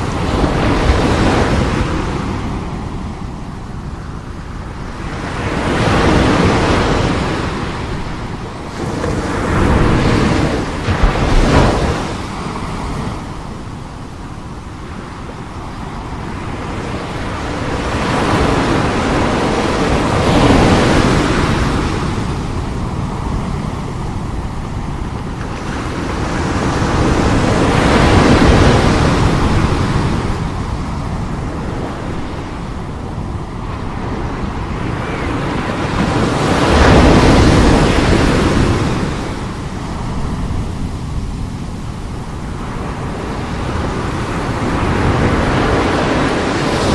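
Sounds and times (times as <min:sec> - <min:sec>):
sea waves breaking ashore: 0:00.0 - 0:46.9.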